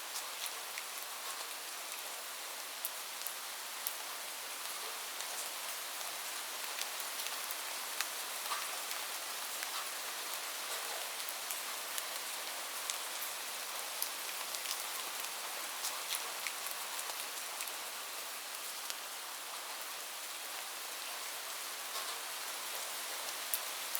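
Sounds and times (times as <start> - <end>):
heavy rain on a roof: 0.0 - 23.9.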